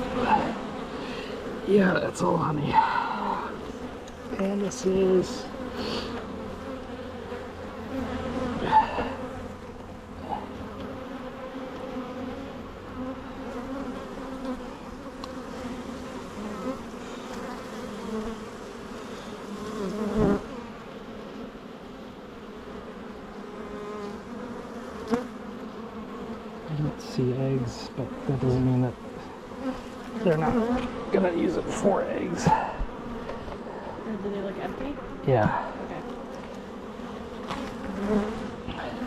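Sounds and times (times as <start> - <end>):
bees buzzing: 0.0 - 39.0.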